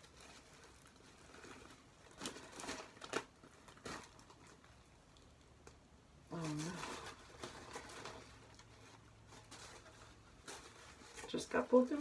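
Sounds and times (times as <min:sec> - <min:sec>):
plastic cap rustling and crinkling: 0:00.0 - 0:12.0.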